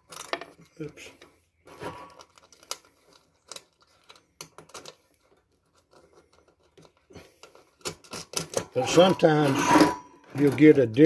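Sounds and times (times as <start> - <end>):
small clicks and scrapes: 0.0 - 11.0.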